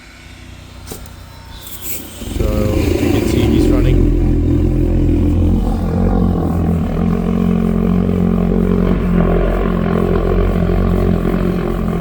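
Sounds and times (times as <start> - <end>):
engine and water pump droning: 0.0 - 12.0.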